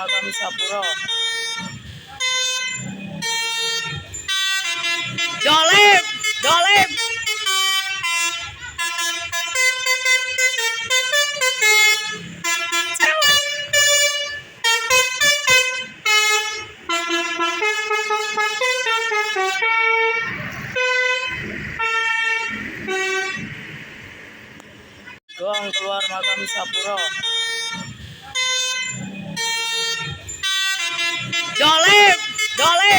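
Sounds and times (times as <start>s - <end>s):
musical air horn melody: 0.0s - 23.4s, 25.4s - 32.9s.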